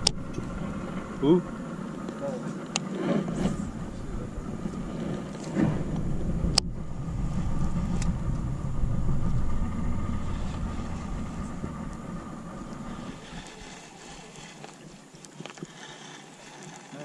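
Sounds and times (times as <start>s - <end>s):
low steady rumble: 0.0s - 15.2s
fishing reel whirring: 0.0s - 17.0s.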